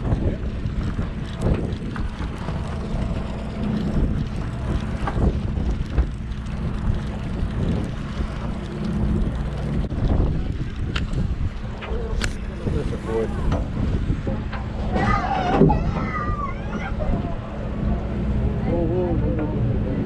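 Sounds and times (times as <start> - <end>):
boat engine drone: 0.0 - 20.0
wind buffeting microphone: 0.0 - 20.0.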